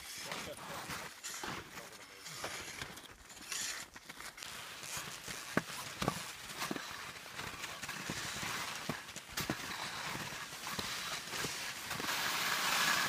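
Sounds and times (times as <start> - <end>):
footsteps crunching snow: 0.0 - 13.0
ski pole plants: 0.0 - 13.0
skis scraping over snow: 0.0 - 13.0.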